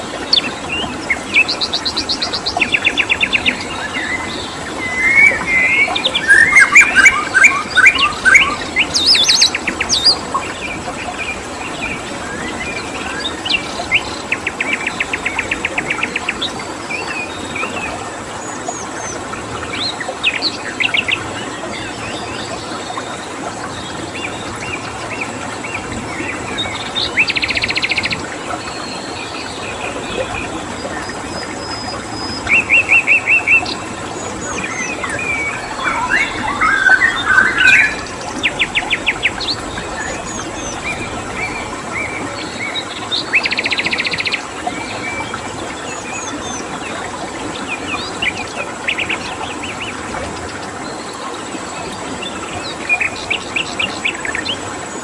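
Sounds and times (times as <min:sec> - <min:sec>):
birds chirping and trilling: 0:00.0 - 0:23.0, 0:23.6 - 0:51.4
stream water rushing: 0:00.0 - 0:55.0.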